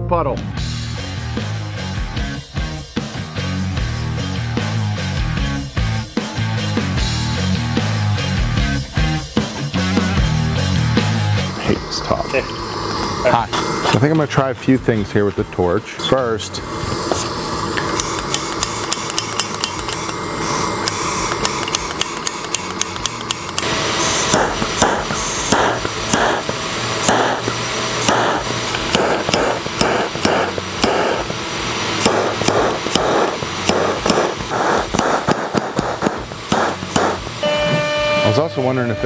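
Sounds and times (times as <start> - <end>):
gas torch hissing: 1.0 - 39.0.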